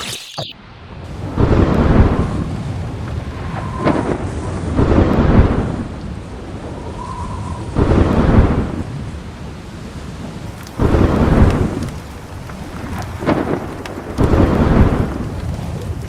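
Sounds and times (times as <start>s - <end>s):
rain: 0.6s - 16.0s
thunder rumbling: 0.6s - 16.0s.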